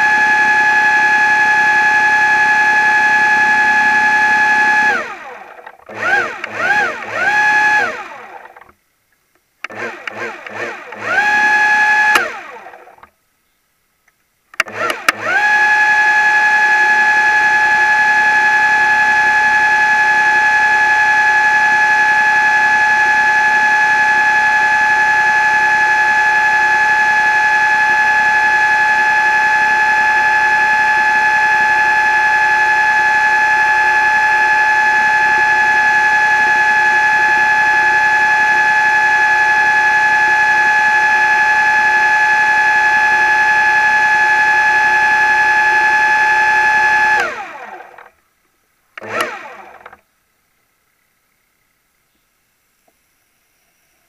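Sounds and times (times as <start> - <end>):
motor whine: 0.0 - 8.8, 9.6 - 13.1, 14.5 - 48.2, 49.0 - 50.0.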